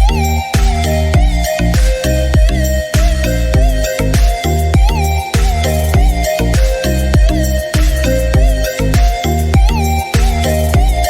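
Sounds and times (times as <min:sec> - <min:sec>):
gliding synth lead: 0:00.0 - 0:11.0
steady kick drum: 0:00.0 - 0:11.0
sustained synth chords: 0:00.0 - 0:11.0.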